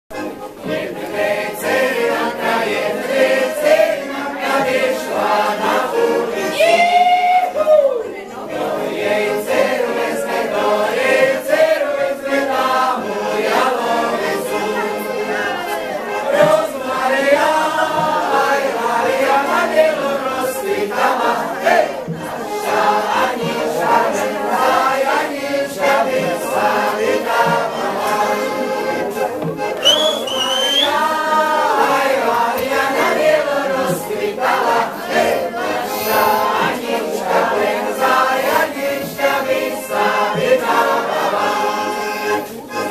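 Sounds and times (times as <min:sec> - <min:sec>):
accordion: 0:00.1 - 0:42.9
men and women singing in chorus: 0:00.2 - 0:42.9.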